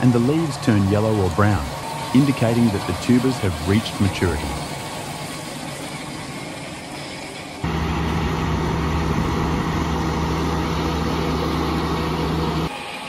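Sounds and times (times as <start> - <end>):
tractor engine running: 0.0 - 12.7
quiet machinery noise: 0.0 - 13.0.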